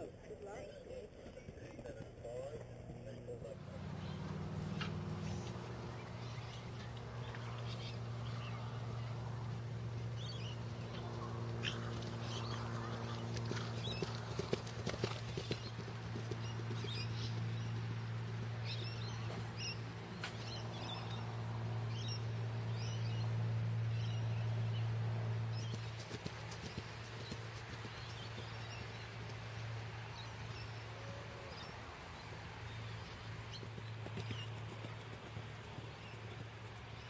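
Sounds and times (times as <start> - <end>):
birds chirping: 0.0 - 37.0
horse cantering on grass: 0.0 - 37.0
steady low hum: 0.0 - 37.0.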